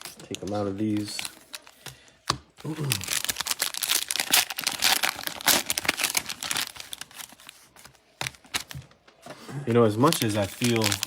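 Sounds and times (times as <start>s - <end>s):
plastic packaging crinkling: 0.0s - 2.0s, 2.6s - 9.0s, 9.9s - 11.0s.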